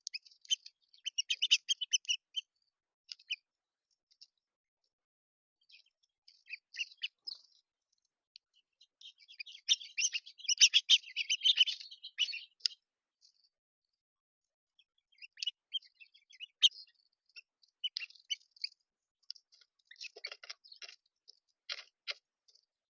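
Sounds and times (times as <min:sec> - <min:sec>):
songbirds chirping: 0:00.0 - 0:05.0, 0:05.6 - 0:22.8.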